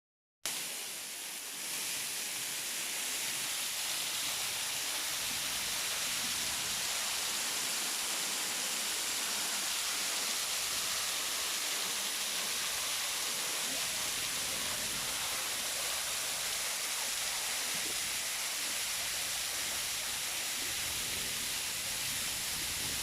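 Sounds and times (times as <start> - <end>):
waterfall rushing: 0.5 - 23.0.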